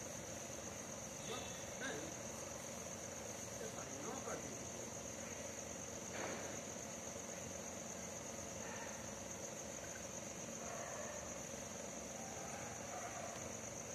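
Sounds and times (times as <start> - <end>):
low background hum: 0.0 - 13.9
night insects trilling: 0.0 - 13.9.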